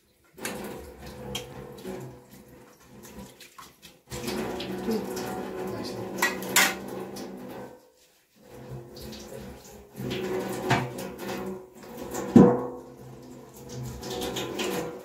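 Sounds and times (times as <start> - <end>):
tap running into sink: 0.4 - 7.8, 8.6 - 15.0.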